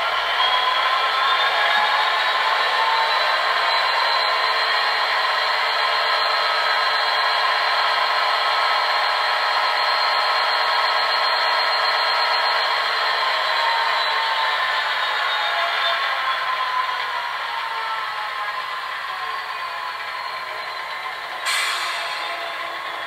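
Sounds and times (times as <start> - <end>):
model locomotive engine idling: 0.0 - 23.0.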